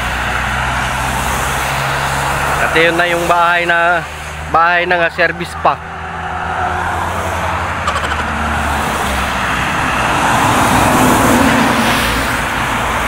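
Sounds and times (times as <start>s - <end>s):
highway traffic rushing past: 0.0s - 13.0s
truck passing: 0.0s - 13.0s.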